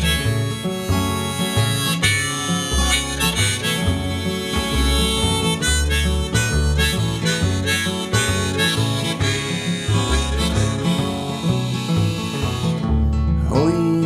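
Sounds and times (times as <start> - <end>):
harmonica melody: 0.0 - 14.0
plucked double bass: 0.0 - 14.0
strummed acoustic guitar: 0.0 - 14.0.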